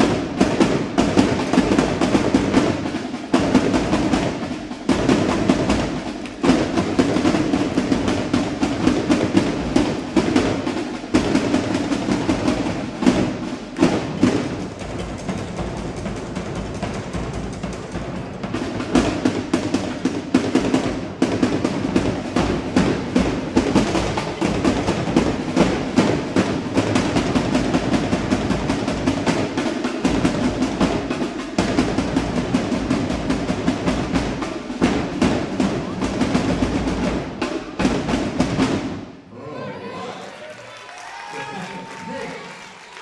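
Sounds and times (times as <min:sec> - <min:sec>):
marching drums playing fast beat: 0:00.0 - 0:39.2.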